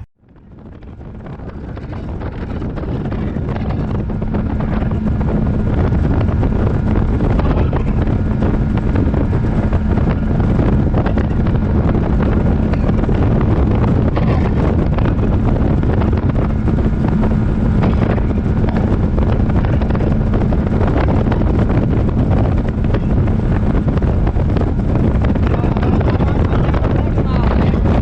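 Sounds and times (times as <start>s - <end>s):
boat motor drone: 0.0s - 28.0s
wind buffeting microphone: 0.0s - 28.0s.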